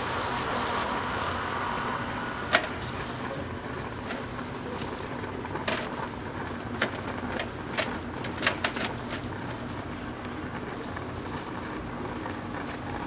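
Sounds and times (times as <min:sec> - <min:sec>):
steady background hum: 0:00.0 - 0:13.0
cooking utensils clicking and clinking: 0:02.5 - 0:13.0.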